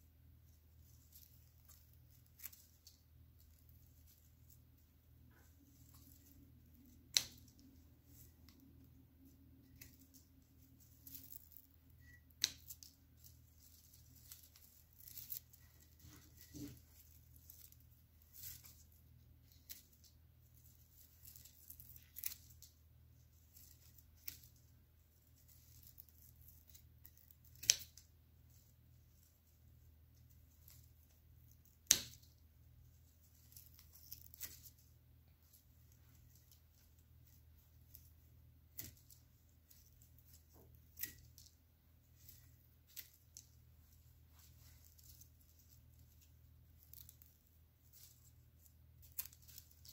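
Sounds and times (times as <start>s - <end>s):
rustling of cut stems: 0.4s - 49.9s.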